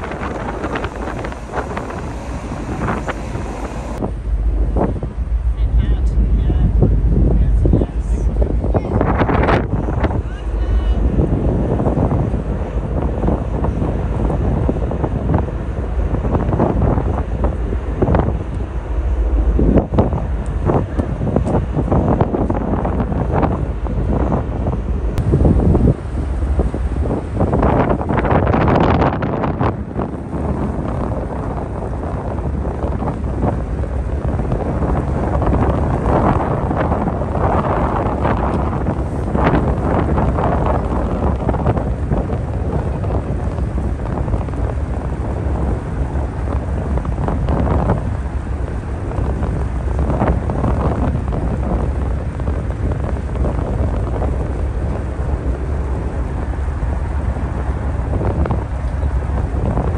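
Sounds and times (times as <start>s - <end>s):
ship low rumble: 0.0s - 59.9s
wind buffeting microphone: 0.0s - 59.9s.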